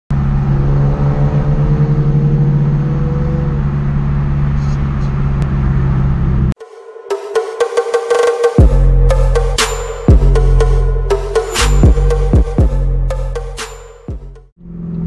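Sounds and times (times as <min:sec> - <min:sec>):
car engine and exhaust droning: 0:00.1 - 0:06.6, 0:08.6 - 0:15.0.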